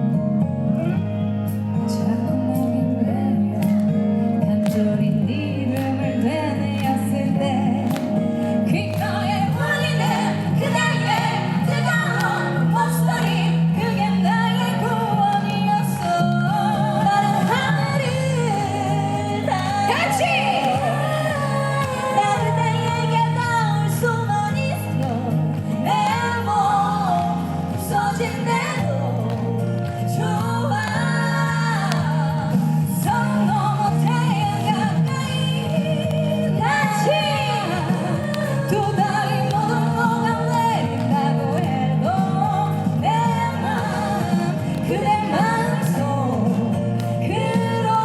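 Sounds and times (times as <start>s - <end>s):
guitar-led band playing: 0.0s - 48.0s
lead vocal singing: 1.8s - 48.0s.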